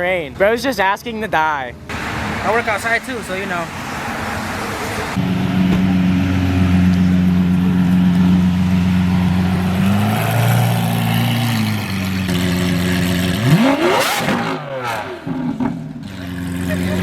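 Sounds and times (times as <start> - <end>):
car engine idling and revving: 1.9 - 17.0.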